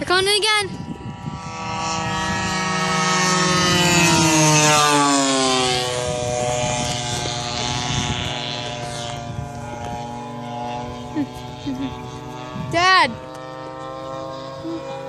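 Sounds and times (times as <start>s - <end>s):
model plane propeller engines droning: 0.0s - 15.0s.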